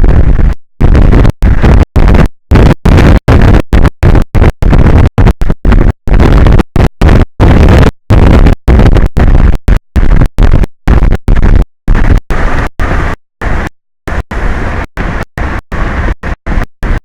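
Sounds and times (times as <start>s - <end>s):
distorted wind rumble on microphone: 0.0s - 17.0s.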